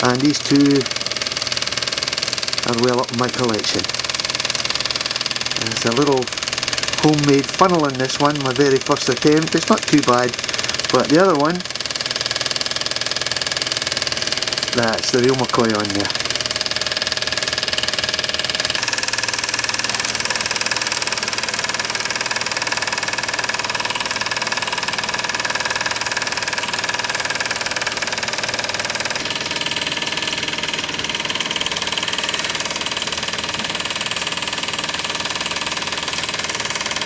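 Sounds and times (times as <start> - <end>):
toy steam engine chuffing: 0.0 - 37.0.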